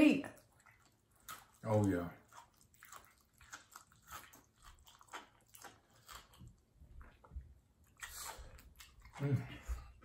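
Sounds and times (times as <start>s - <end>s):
person chewing: 0.4s - 10.0s.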